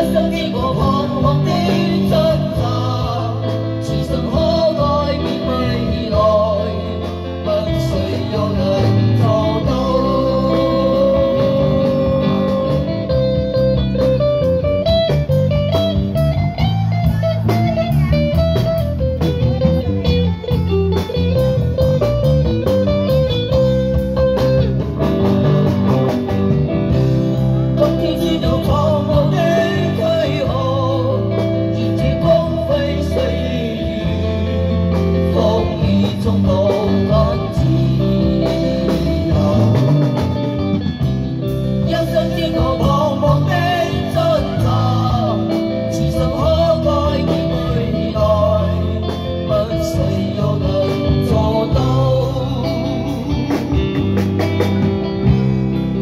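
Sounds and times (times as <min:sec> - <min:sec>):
person singing: 0:00.0 - 0:25.8, 0:26.6 - 0:54.4
blues-rock band playing: 0:00.0 - 0:56.0
electric guitar: 0:00.0 - 0:56.0.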